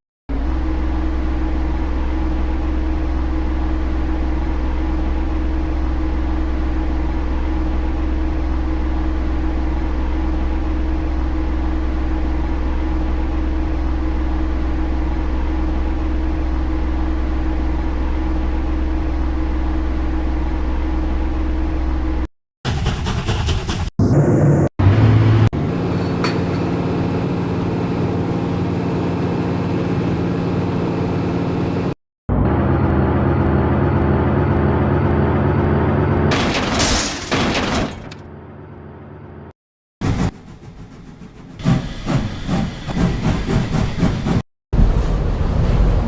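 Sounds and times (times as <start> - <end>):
train running drone: 0.3 - 36.2, 40.0 - 46.0.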